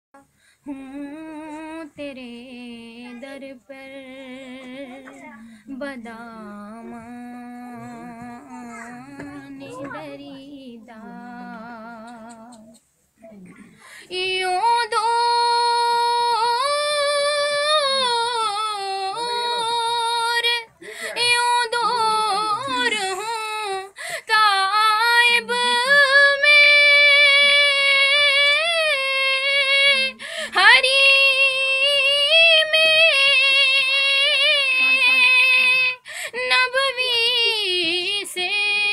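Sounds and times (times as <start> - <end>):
woman singing unaccompanied: 0.2 - 38.9.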